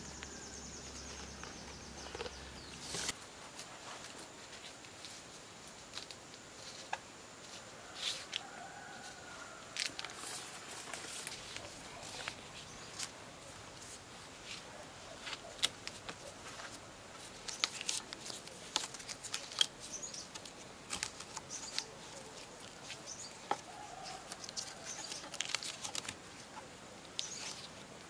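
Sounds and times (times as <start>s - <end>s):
scratchy wire rustles: 1.0s - 27.8s.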